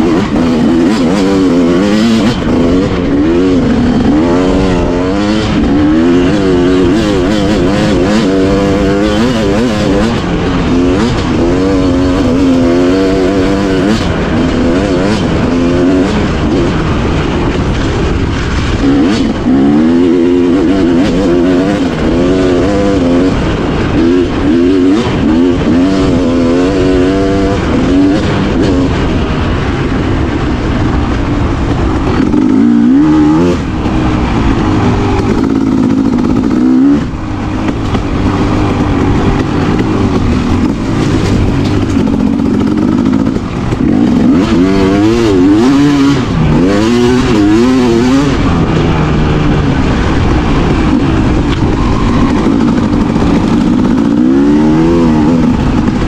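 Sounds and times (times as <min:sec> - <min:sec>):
two-stroke dirt bike engine revving: 0:00.0 - 0:56.0
wind: 0:00.0 - 0:56.0.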